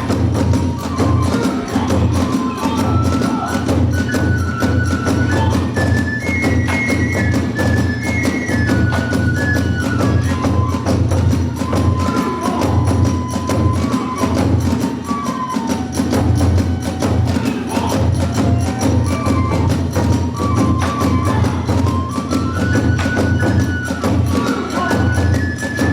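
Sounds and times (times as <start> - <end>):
bamboo flute melody: 0.0 - 25.9
taiko drum beating: 0.0 - 25.9.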